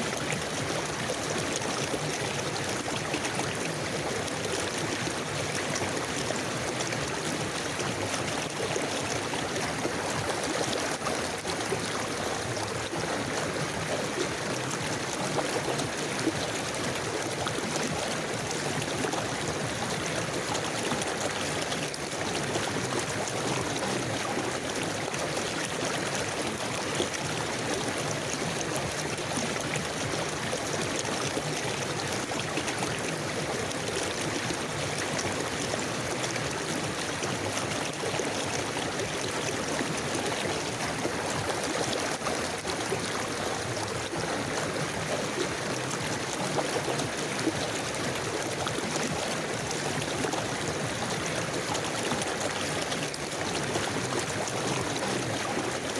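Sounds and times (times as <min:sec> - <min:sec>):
river flowing over stones: 0:00.0 - 0:55.9.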